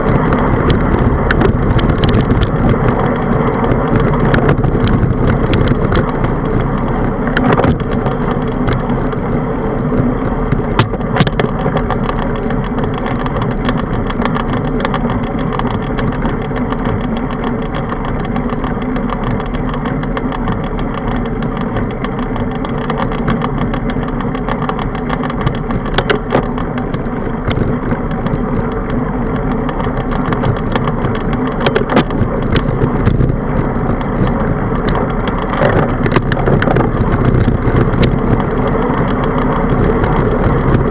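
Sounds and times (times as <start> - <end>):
bicycle clicks and rattles: 0.0 - 40.9
bicycle road noise: 0.0 - 40.9
wind noise on microphone: 0.0 - 40.9.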